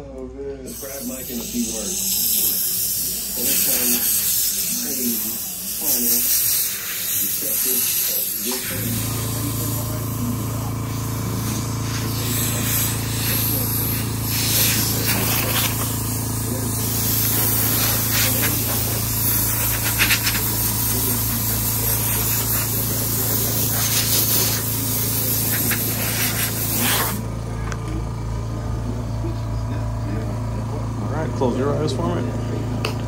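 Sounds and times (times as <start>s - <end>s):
hissing rush of air: 0.7s - 27.3s.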